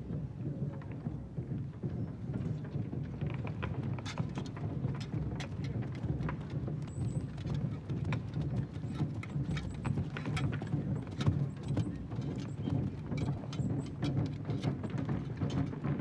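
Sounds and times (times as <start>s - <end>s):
hoof knocks and clicks: 0.0s - 16.0s.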